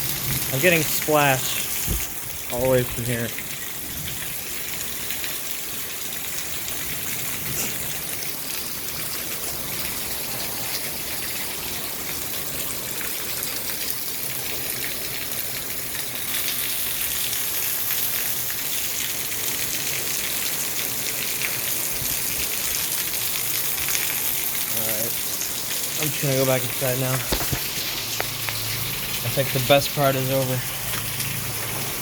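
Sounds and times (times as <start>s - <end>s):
heavy rain pouring and splashing: 0.0s - 32.0s.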